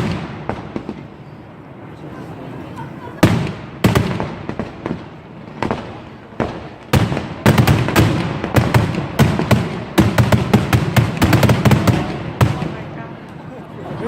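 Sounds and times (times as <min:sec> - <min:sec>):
fireworks bangs with rumbling echo: 0:00.0 - 0:02.0, 0:03.0 - 0:13.4.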